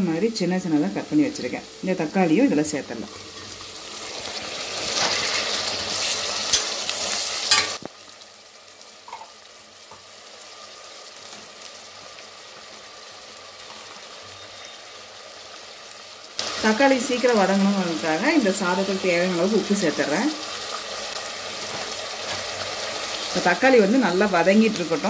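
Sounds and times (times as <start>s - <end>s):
tomatoes sizzling in oil: 0.0s - 25.0s.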